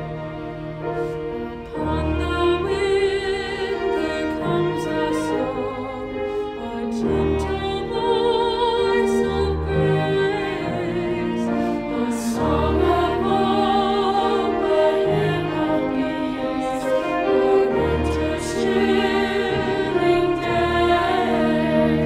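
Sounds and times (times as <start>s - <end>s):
women singing a carol: 1.8s - 22.0s.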